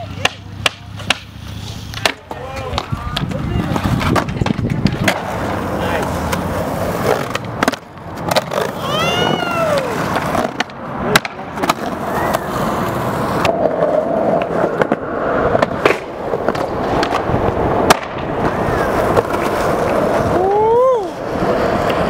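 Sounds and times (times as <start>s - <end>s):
skateboard tail clacks: 0.0s - 20.4s, 21.0s - 22.0s
skateboard wheels rolling on concrete: 0.0s - 22.0s.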